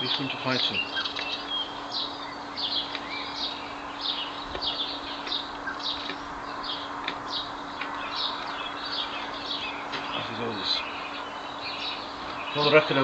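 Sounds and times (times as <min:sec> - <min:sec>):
faint low hum: 0:00.0 - 0:13.0
small birds chirping: 0:00.0 - 0:13.0.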